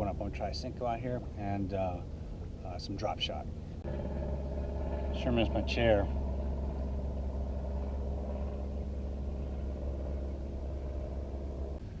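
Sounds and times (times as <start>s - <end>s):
boat engine idling: 1.2s - 12.0s.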